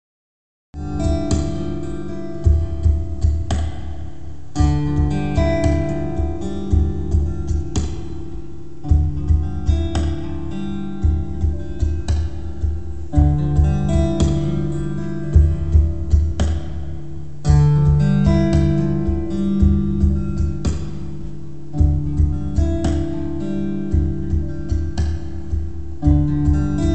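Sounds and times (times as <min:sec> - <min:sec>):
looped acoustic guitar: 0:00.8 - 0:26.9.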